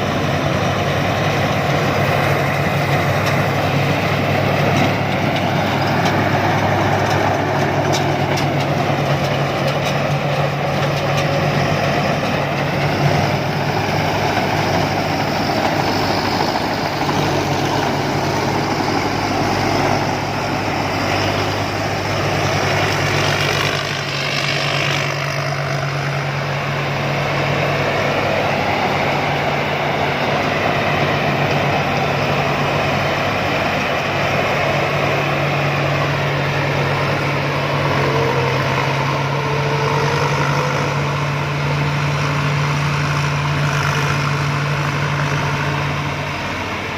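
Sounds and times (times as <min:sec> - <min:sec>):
combine harvester engine drone: 0:00.0 - 0:46.9
machinery noise: 0:00.0 - 0:46.9.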